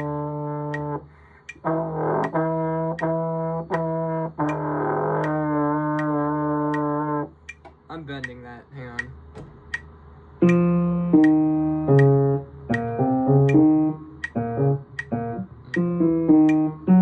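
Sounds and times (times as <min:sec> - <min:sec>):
digital piano single notes: 0:00.0 - 0:01.0, 0:01.6 - 0:07.3, 0:09.0 - 0:17.0
metronome clicking: 0:00.0 - 0:17.0.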